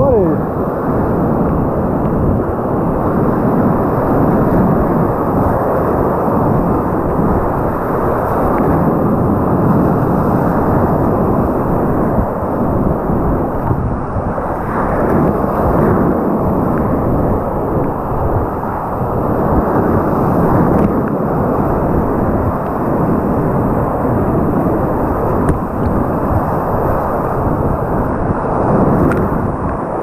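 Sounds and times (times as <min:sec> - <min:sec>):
whitewater river rushing through rapids: 0:00.0 - 0:30.0.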